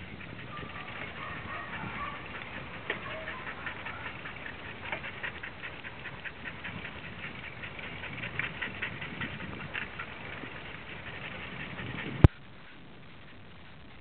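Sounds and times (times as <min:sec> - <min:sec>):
wind and tyre rumble: 0:00.0 - 0:14.0.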